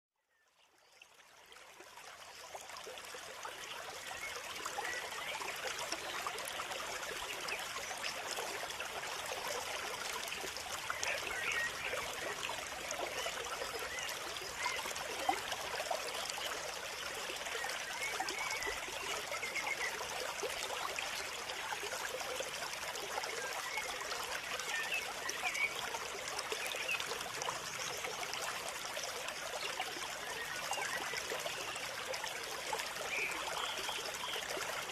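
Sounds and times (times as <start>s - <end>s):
small stream trickling: 0.2s - 34.9s.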